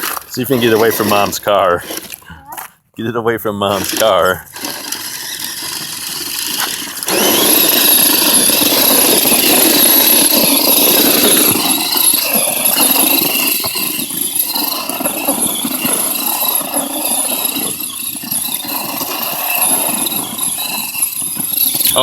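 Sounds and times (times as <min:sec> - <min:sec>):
toy truck motor whining: 0:00.0 - 0:02.6, 0:03.7 - 0:22.0.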